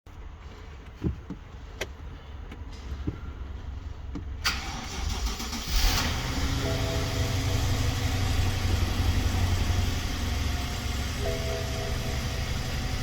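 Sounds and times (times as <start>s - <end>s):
car engine starting and idling: 0.2s - 13.0s.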